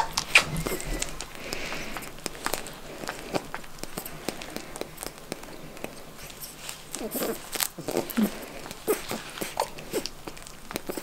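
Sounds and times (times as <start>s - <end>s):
rabbit chewing: 0.0s - 11.0s.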